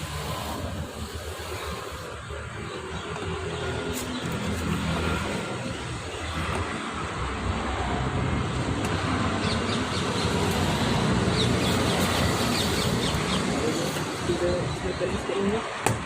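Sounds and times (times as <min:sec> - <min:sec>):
vehicle noise hum and rumble: 0:00.0 - 0:16.0.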